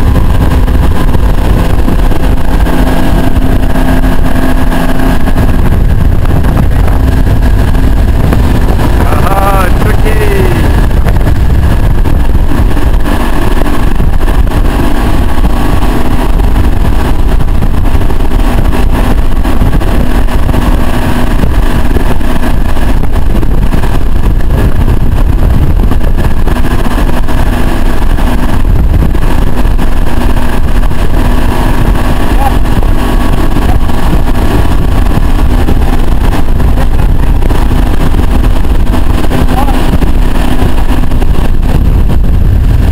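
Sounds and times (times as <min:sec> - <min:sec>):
motorboat engine running: 0:00.0 - 0:42.9
wind rumbling on microphone: 0:00.0 - 0:42.9.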